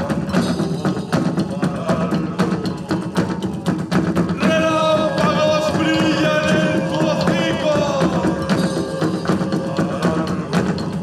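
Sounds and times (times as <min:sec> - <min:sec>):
drums in quick rhythm: 0:00.0 - 0:11.0
person singing: 0:00.0 - 0:11.0.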